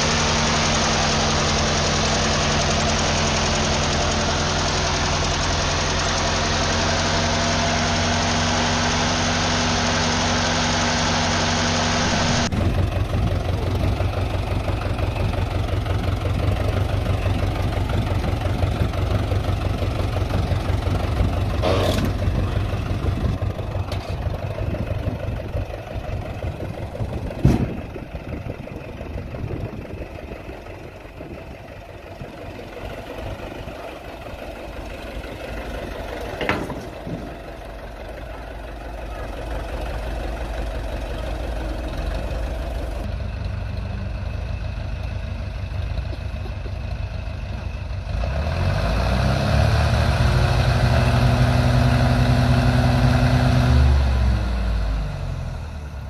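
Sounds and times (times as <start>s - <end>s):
tractor engine idling: 0.0s - 48.7s.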